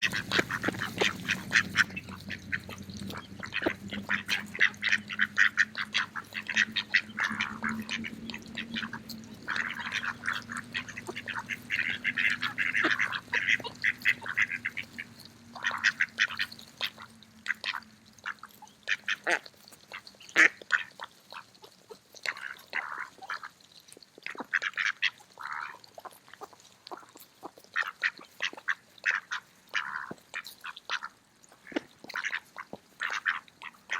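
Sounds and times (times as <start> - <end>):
ducks quacking: 0.0 - 23.6, 24.2 - 33.9.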